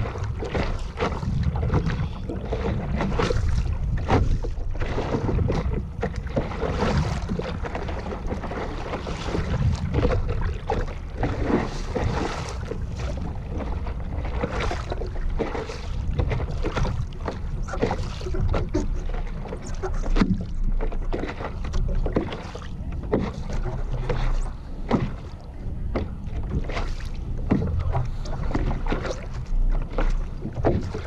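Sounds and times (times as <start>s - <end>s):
water splashing against paddleboard: 0.0s - 31.0s
wind rumble on microphone: 0.0s - 31.0s.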